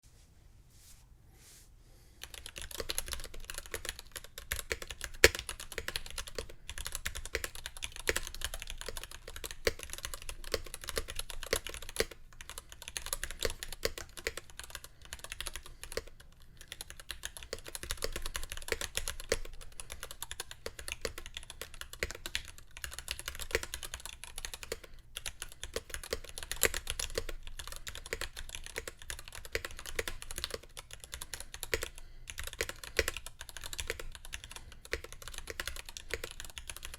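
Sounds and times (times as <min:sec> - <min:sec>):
fast typing on mechanical keyboard: 0:02.2 - 0:36.9.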